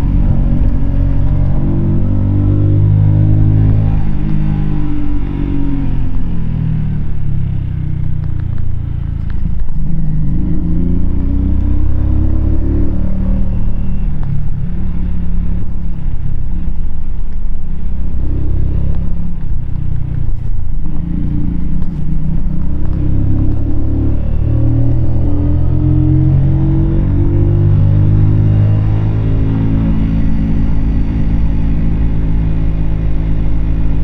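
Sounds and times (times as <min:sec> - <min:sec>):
low riding noise rumble: 0:00.0 - 0:34.0
motorcycle engine revving: 0:00.0 - 0:34.0.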